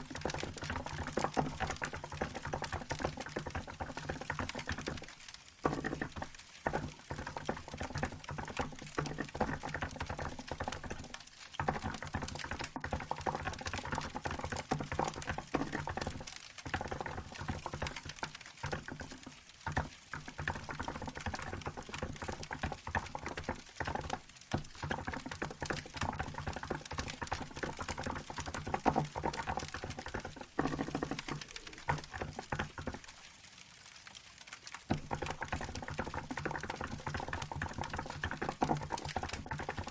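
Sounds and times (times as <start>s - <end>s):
mechanical keyboard typing: 0.0s - 33.1s, 34.9s - 39.9s
wood fire crackling: 0.0s - 39.9s.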